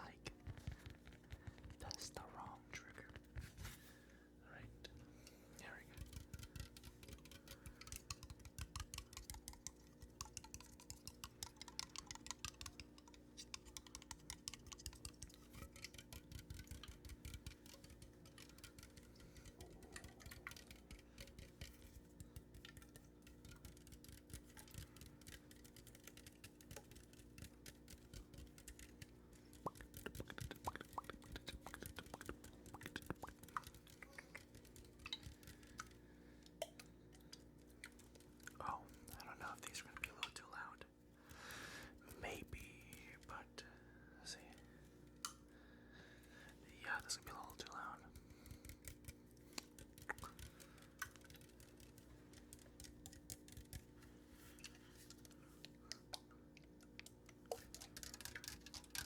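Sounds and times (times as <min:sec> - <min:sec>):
fingertips tapping: 0:05.0 - 0:40.7, 0:46.3 - 0:59.0.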